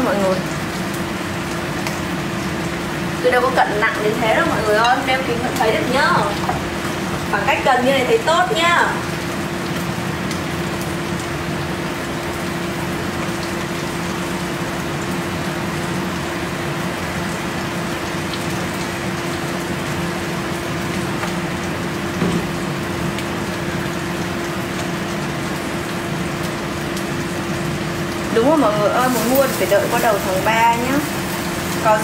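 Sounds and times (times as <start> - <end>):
range hood fan running: 0.0 - 32.0.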